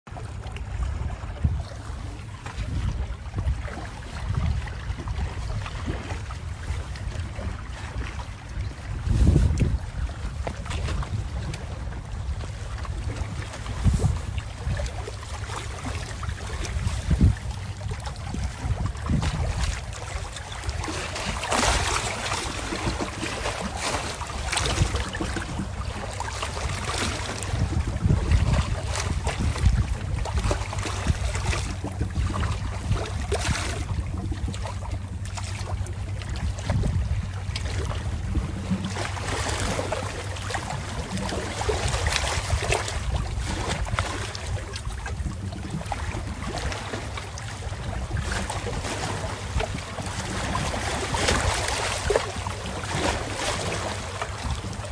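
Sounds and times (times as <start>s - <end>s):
sea waves washing in: 0.1s - 54.9s
steady low rumble: 0.1s - 54.9s.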